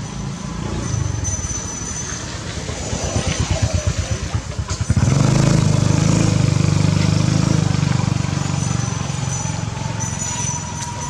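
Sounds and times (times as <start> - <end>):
engine pulsing hum: 0.0 - 11.0.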